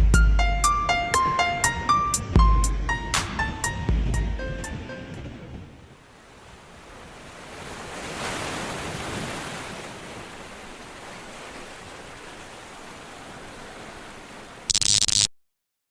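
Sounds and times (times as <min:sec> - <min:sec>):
ocean surf washing ashore: 0:00.9 - 0:14.7.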